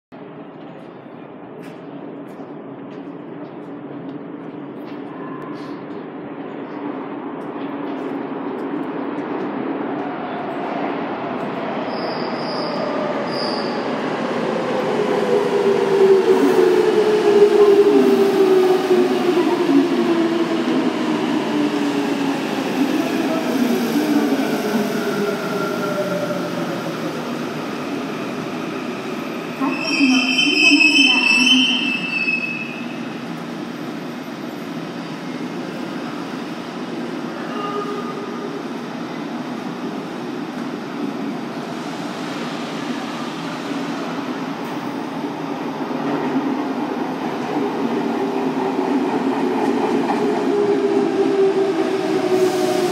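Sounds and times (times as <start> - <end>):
train rumbling into station: 0.1 - 52.9.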